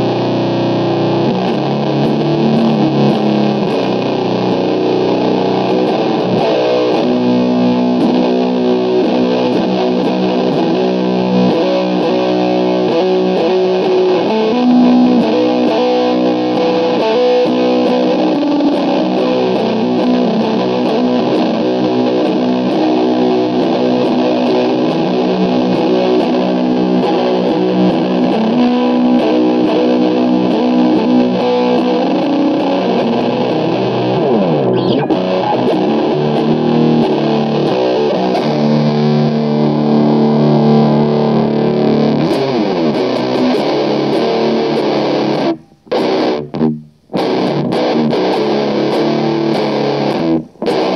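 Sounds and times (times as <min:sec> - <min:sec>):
distorted electric guitar riff: 0:00.0 - 0:50.9.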